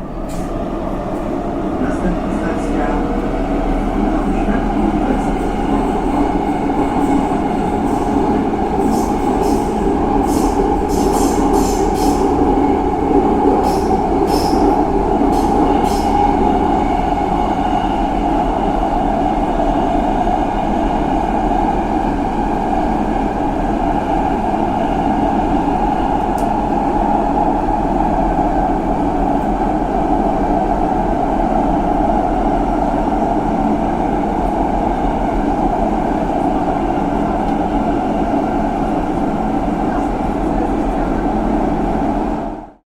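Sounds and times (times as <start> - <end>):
subway train rumble: 0.0 - 42.8.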